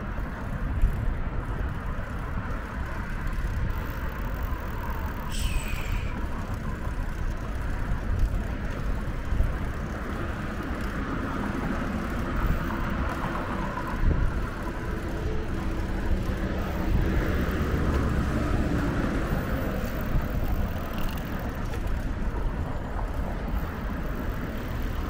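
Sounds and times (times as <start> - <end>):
road traffic rumble: 0.0 - 25.0
wind on microphone: 0.0 - 25.0.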